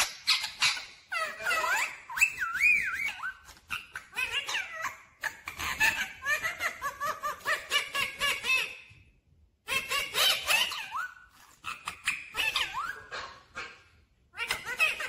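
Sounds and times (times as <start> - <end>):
parakeet chattering: 0.0 - 8.8, 9.7 - 13.8, 14.4 - 15.0.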